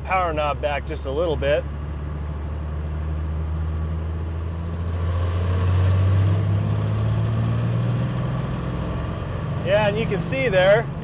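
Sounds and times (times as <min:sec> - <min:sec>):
diesel engine at full throttle: 0:00.0 - 0:11.0.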